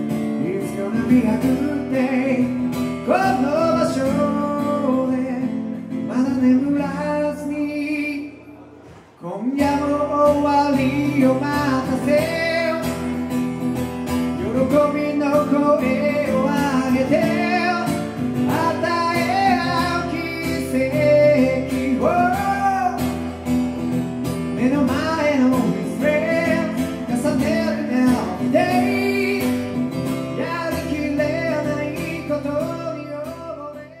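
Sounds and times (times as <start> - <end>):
man singing: 0.0 - 23.4, 24.4 - 34.0
acoustic guitar: 0.0 - 34.0.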